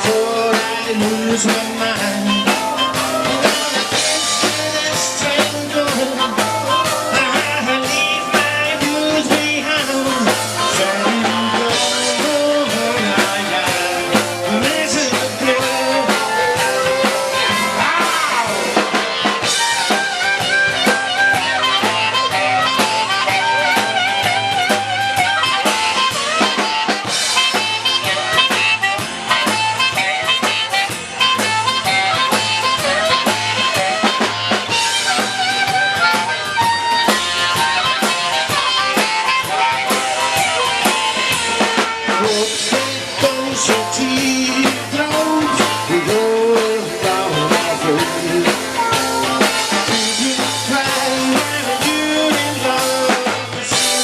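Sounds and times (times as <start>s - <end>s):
rock and roll band playing: 0.0s - 54.0s.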